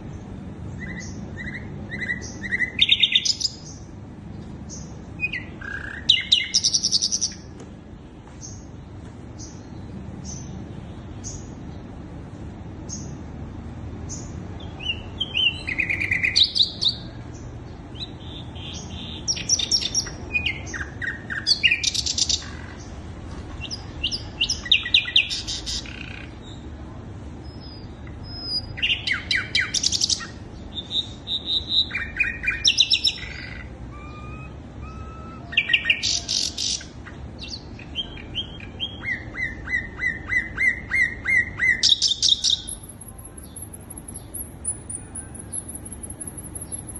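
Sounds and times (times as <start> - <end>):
bird chirps and trills: 0.0 - 13.3, 14.0 - 46.9.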